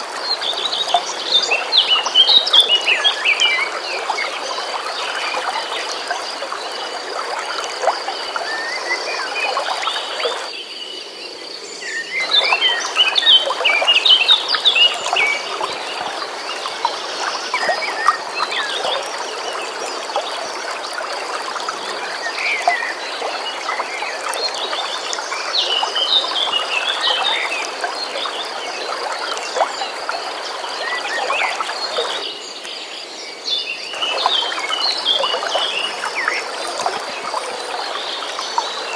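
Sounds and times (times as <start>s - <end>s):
songbirds chirping: 0.0s - 38.9s
stream water running: 0.0s - 38.9s.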